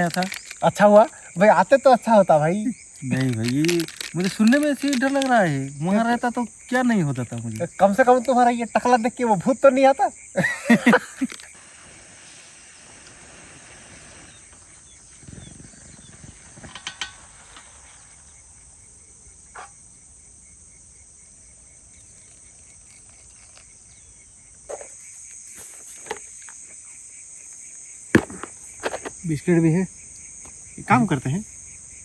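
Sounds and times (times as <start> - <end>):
crickets chirping: 0.0 - 32.0
pulsing insect call: 0.0 - 32.0.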